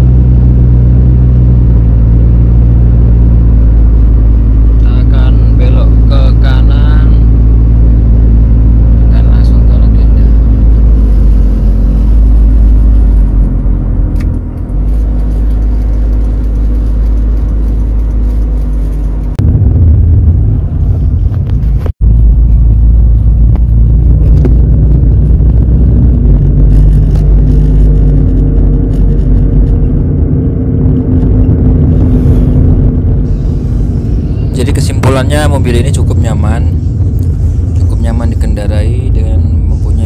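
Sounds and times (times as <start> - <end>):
car engine from inside cabin: 0.0 - 40.0
road rumble: 0.0 - 40.0.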